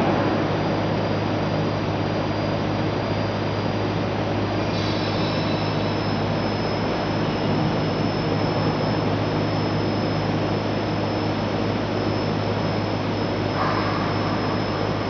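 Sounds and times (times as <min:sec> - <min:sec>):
faint high whine: 0:00.0 - 0:15.0
motor and pump hum: 0:00.0 - 0:15.0.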